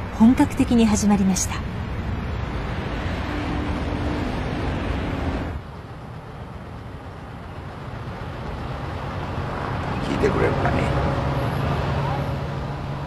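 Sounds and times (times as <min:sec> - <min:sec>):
highway traffic noise: 0:00.0 - 0:13.0
quiet street noise: 0:00.0 - 0:13.0.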